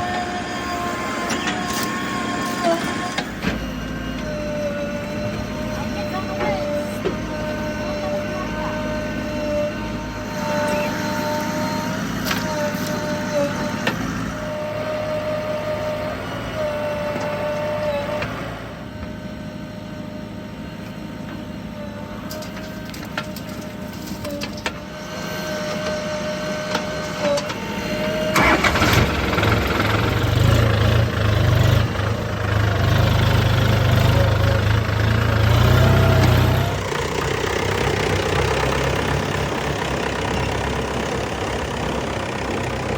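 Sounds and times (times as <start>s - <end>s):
heavy machinery diesel engine: 0.0s - 42.9s
steady machine whine: 0.0s - 42.9s.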